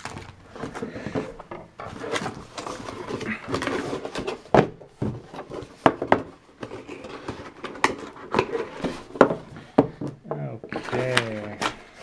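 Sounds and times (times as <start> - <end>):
packaging clicks and knocks: 0.0 - 12.0
packaging rustling: 0.0 - 12.0.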